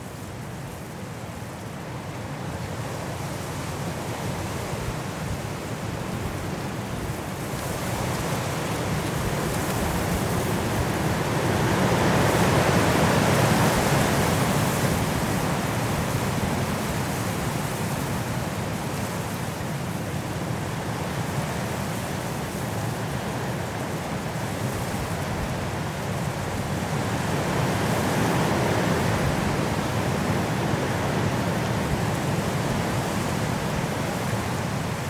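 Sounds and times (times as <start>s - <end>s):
strong wind rushing through trees: 0.0s - 35.0s.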